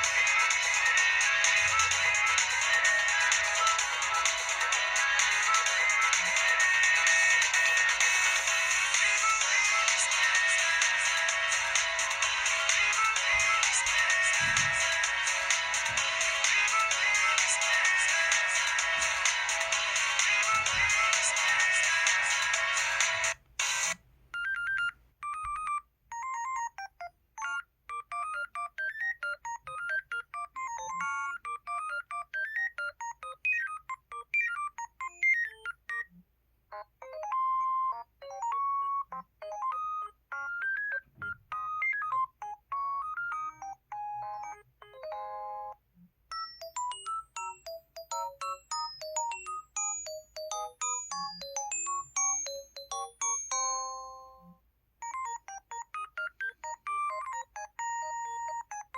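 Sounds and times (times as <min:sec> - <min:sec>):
phone ringtone melodies: 0:00.0 - 0:36.2, 0:36.8 - 0:58.9.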